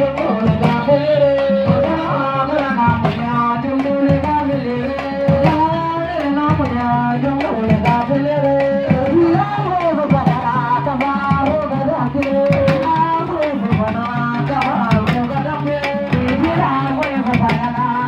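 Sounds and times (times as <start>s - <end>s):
hand drums in busy rhythm: 0.0s - 18.0s.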